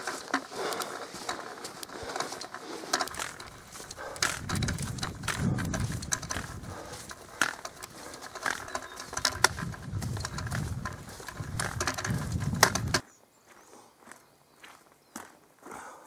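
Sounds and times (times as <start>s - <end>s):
heavy breathing puffs: 0.0s - 12.9s, 15.6s - 16.0s
backpack straps rustling: 0.0s - 13.0s
footsteps on forest track: 0.0s - 16.0s.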